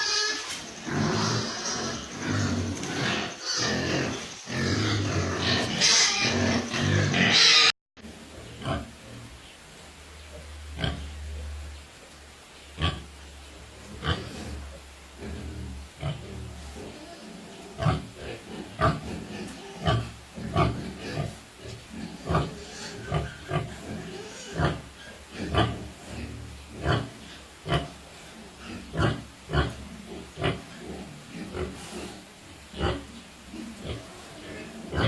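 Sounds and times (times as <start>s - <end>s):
pigs grunting: 0.0s - 9.4s, 13.9s - 35.0s.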